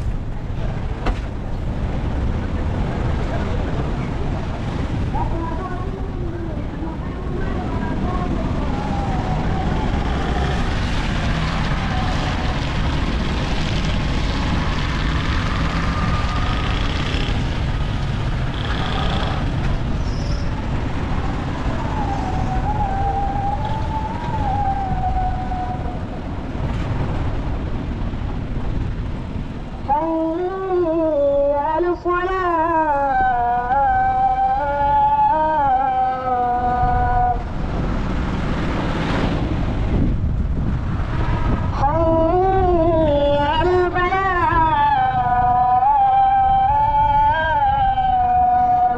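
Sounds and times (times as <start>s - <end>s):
vehicle rumble on road: 0.0s - 48.9s.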